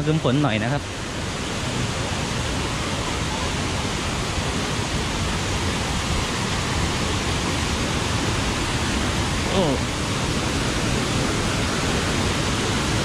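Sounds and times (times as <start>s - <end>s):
waterfall and rapids rushing: 0.0s - 13.0s.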